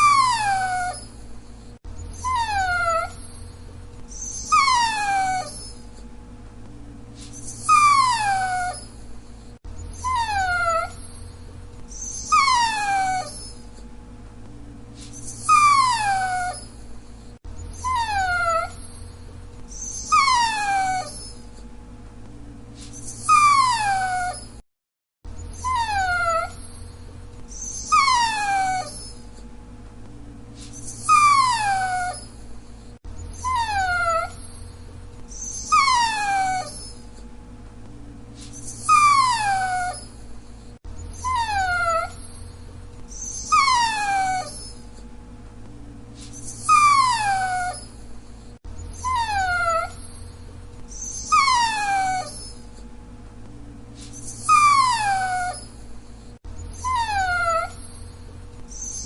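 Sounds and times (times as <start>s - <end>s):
dog whining: 0.0s - 6.1s, 7.2s - 13.9s, 15.0s - 21.7s, 22.8s - 24.6s, 25.3s - 29.5s, 30.6s - 37.3s, 38.4s - 45.1s, 46.2s - 52.9s, 54.0s - 59.0s.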